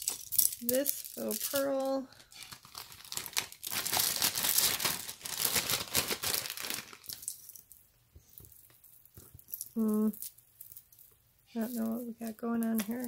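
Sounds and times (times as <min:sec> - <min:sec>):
plastic bag crinkling: 0:00.0 - 0:07.7, 0:08.5 - 0:13.0.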